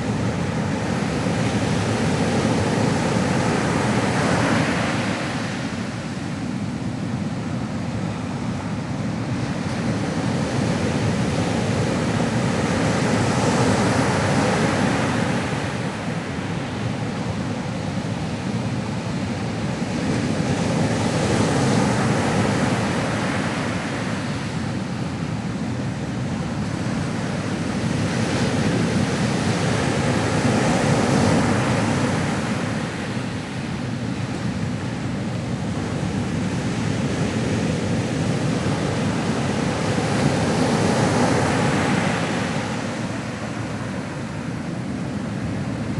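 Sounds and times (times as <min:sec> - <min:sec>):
ocean waves breaking on shore: 0:00.0 - 0:45.9.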